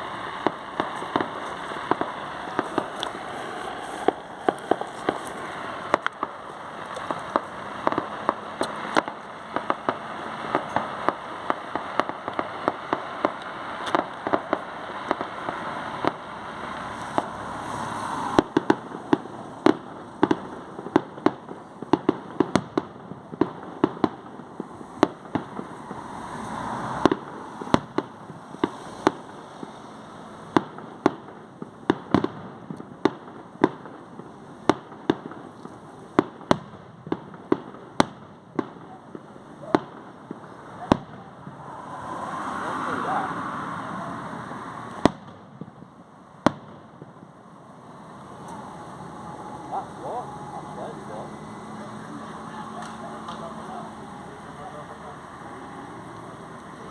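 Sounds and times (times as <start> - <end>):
background hiss and crackle: 0.0 - 56.9
fireworks bangs and cracks: 0.0 - 56.9.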